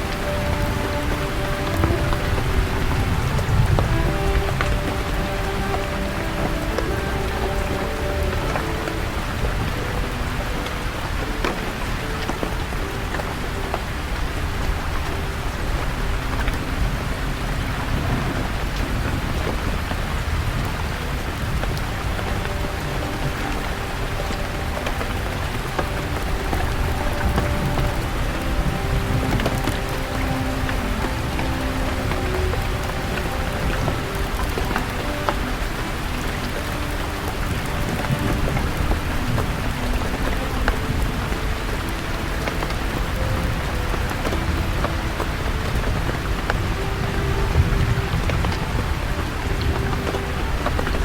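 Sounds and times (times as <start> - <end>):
rain falling on leaves: 0.0 - 51.0
raindrops tapping: 0.0 - 51.0
water drops ticking: 0.0 - 51.0.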